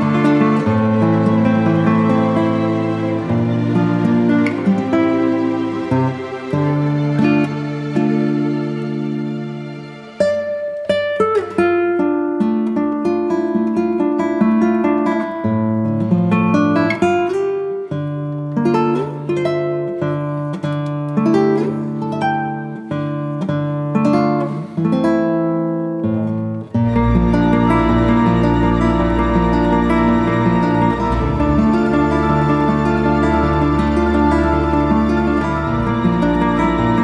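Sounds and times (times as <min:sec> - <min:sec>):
plucked acoustic guitar music: 0:00.0 - 0:37.0.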